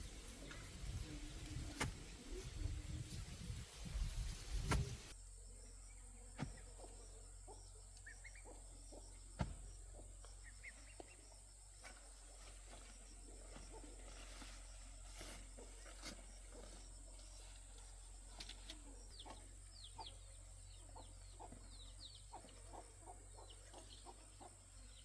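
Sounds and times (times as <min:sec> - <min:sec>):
faint bird chirps: 0:00.0 - 0:25.0.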